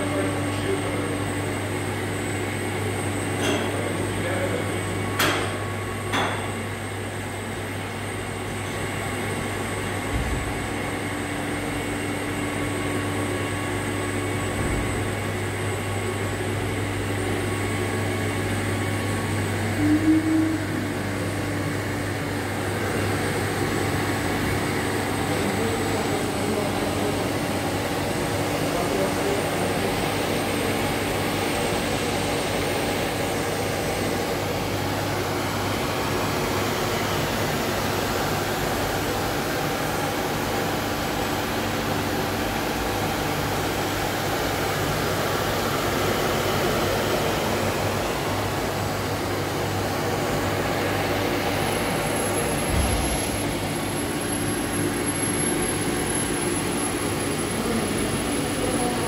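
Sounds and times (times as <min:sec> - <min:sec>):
milling machine motors and fans: 0:00.0 - 0:59.0.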